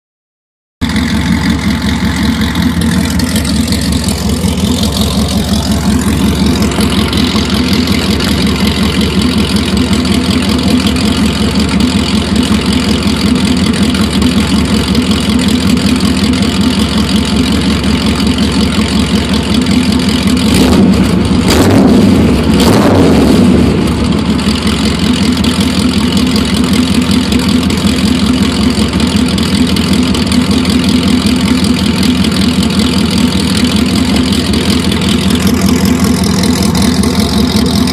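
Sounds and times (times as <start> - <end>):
engine revving: 0.8 - 25.6, 26.2 - 37.9
car engine idling: 0.8 - 37.9.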